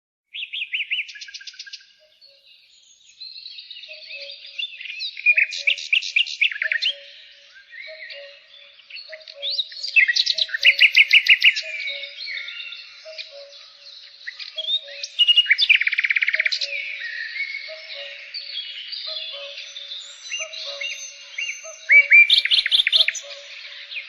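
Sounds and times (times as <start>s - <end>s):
bird song whistles and trills: 0.3s - 24.0s.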